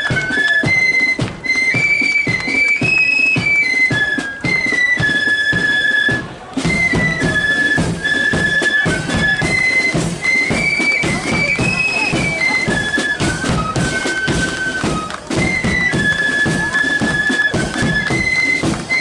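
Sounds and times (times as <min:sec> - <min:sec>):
flutes playing high melody: 0:00.0 - 0:19.0
marching drums beating: 0:00.0 - 0:19.0.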